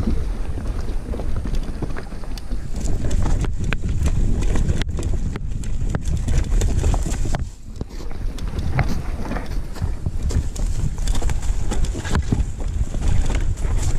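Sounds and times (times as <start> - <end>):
bike rattles and knocks: 0.0 - 13.9
tyres rumbling on dirt: 0.0 - 13.9
wind on microphone: 0.0 - 13.9.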